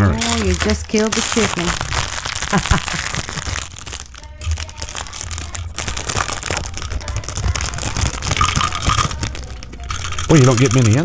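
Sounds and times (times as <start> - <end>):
plastic toy crinkling: 0.0 - 11.0.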